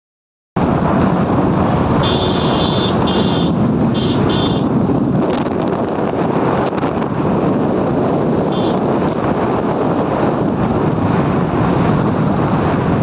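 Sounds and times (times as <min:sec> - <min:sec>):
car road and wind noise: 0:00.6 - 0:13.0.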